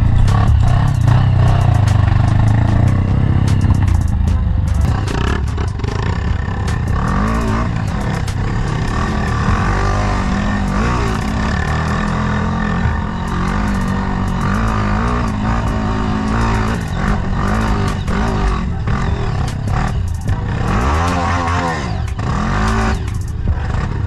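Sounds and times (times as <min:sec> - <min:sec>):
bike ticks and rattles: 0:00.0 - 0:24.0
dirt bike engine revving: 0:00.0 - 0:24.0.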